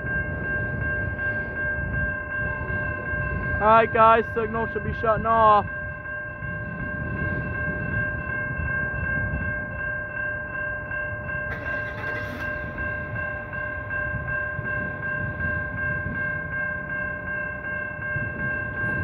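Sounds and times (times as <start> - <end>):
railroad crossing bell ringing: 0.0 - 19.0.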